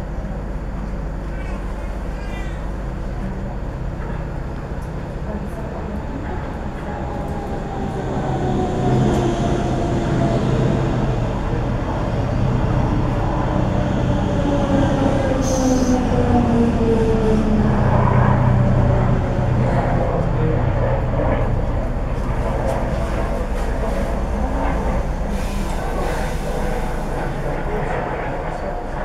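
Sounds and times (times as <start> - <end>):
electric train rumbling past: 0.0 - 29.0.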